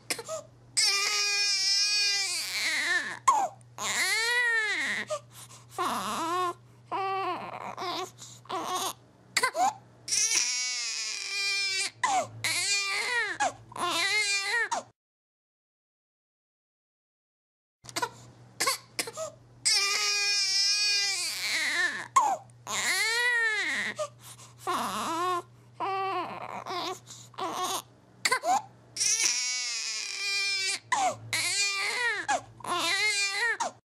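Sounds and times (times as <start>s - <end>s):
infant crying: 0.1s - 5.2s, 5.8s - 14.9s, 17.9s - 33.8s.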